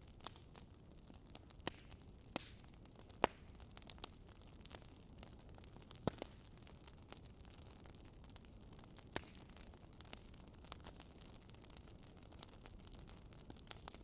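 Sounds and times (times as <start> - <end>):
firewood crackling and popping: 0.0 - 14.0
low steady hiss: 0.0 - 14.0.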